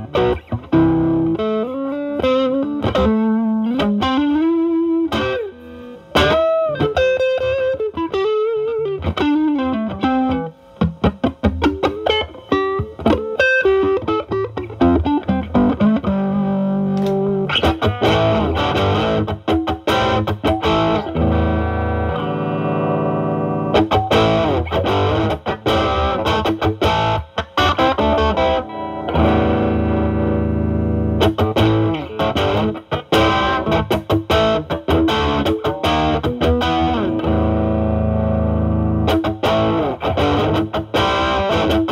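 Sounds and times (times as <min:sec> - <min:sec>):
overdriven electric guitar lead: 0:00.0 - 0:41.9.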